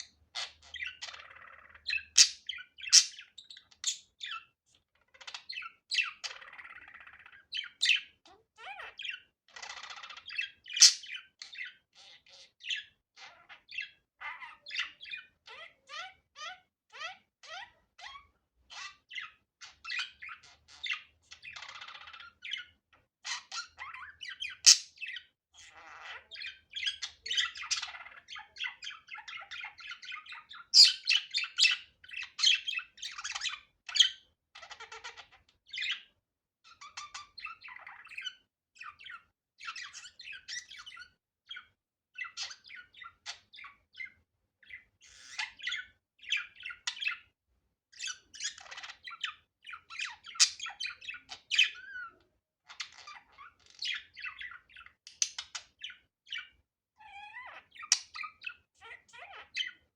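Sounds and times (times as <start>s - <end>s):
budgerigar chattering and warbling: 0.0s - 36.1s, 36.7s - 47.3s, 48.0s - 59.9s.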